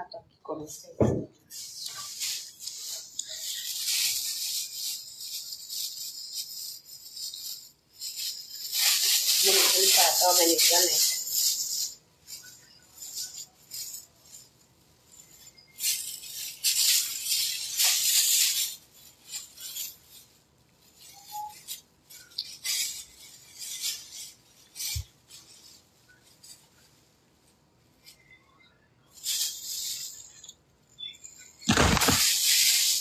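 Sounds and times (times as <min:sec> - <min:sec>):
plastic bag rustling: 0:01.0 - 0:28.2, 0:29.1 - 0:33.0.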